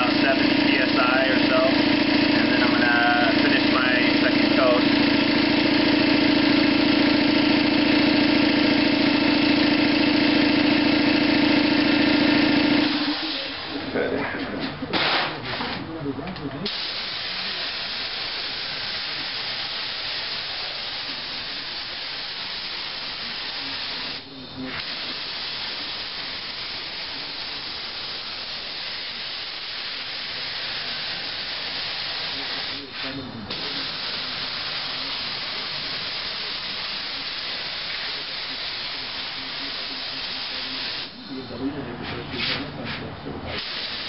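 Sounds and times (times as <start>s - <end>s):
paint spray gun hissing: 0.0s - 14.0s, 16.7s - 41.7s, 43.5s - 44.0s.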